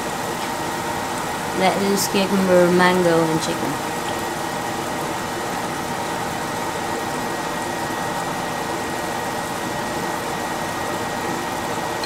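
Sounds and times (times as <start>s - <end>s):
mechanical hum with high whine: 0.0s - 12.0s.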